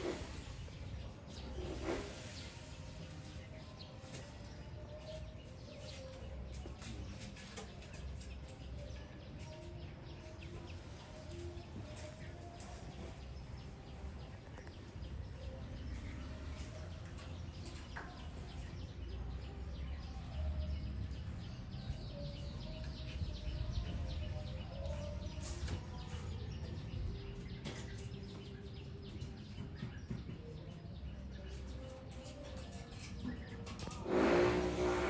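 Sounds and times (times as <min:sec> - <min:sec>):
baby birds cheeping: 0:00.0 - 0:35.0.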